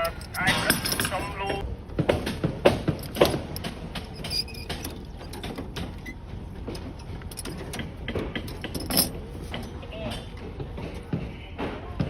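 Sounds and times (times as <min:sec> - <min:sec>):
clicks and rattles of steel rebar: 0:00.0 - 0:10.4.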